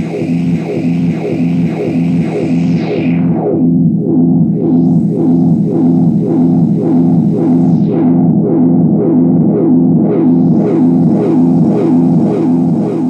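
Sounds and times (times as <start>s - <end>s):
synthesizer drone with pitch sweeps: 0.0s - 13.0s.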